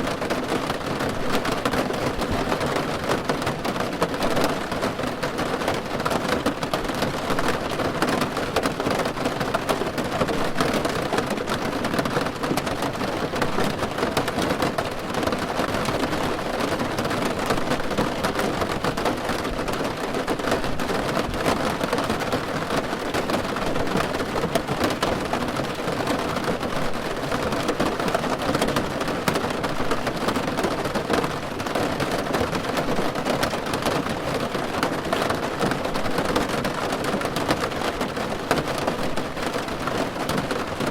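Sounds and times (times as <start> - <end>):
rain on a car roof: 0.0 - 40.9.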